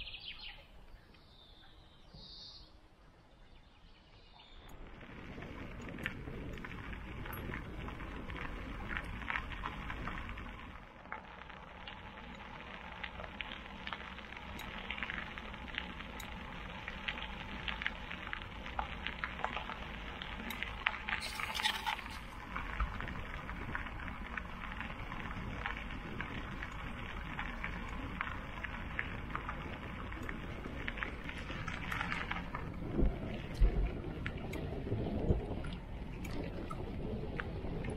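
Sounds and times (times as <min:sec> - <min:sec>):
bike tyres rolling on gravel: 0:03.4 - 0:37.9.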